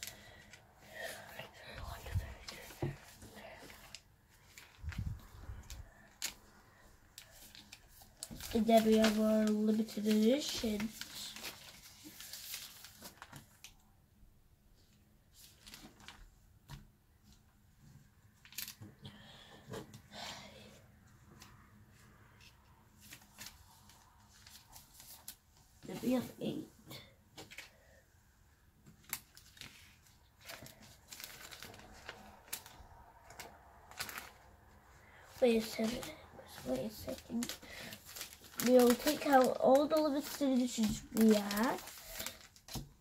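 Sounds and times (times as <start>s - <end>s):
plastic pages rustling: 0.0s - 13.8s, 14.9s - 17.4s, 18.4s - 18.9s, 22.4s - 26.6s, 27.4s - 27.8s, 28.8s - 43.0s
plastic crinkles: 0.0s - 13.9s, 15.3s - 16.4s, 18.4s - 18.9s, 23.0s - 27.8s, 28.8s - 43.0s.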